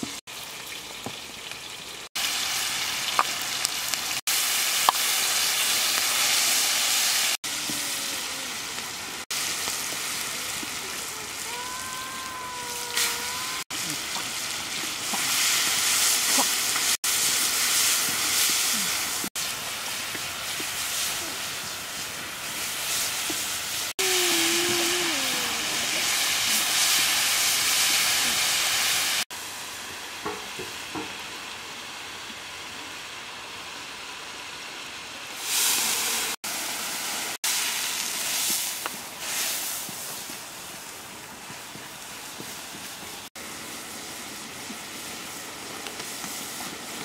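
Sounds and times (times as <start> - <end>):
meat sizzling in a wok: 0.0 - 47.0.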